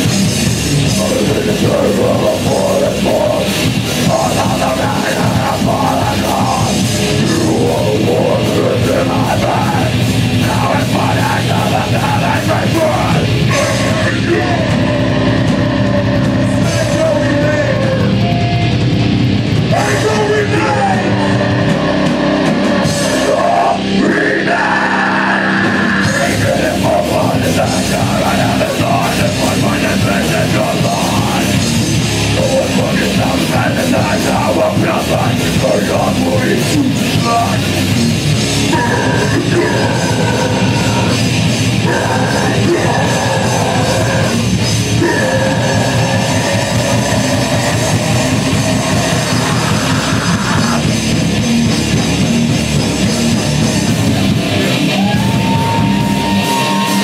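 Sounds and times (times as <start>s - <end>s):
heavy metal band playing live: 0.0s - 57.0s.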